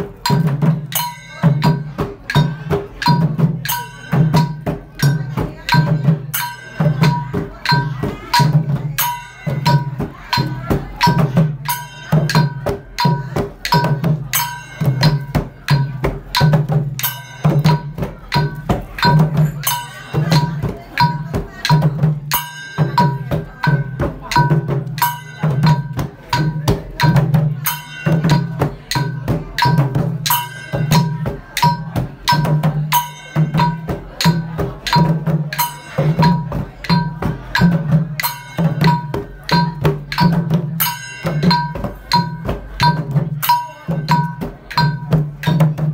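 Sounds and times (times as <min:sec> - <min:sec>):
drums beaten in fast rhythm: 0:00.0 - 0:45.9
ringing metallic percussion strokes: 0:00.0 - 0:45.9.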